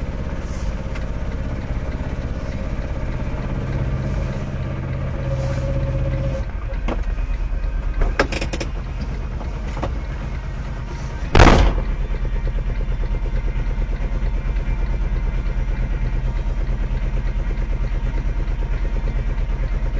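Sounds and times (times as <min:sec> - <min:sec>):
vehicle engine throbbing: 0:00.0 - 0:19.9.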